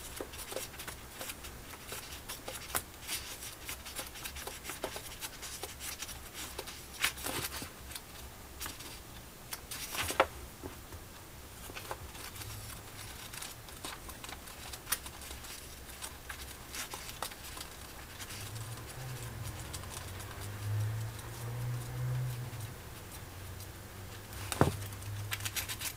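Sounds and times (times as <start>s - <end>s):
book pages flipping: 0.0s - 10.3s, 11.6s - 25.9s.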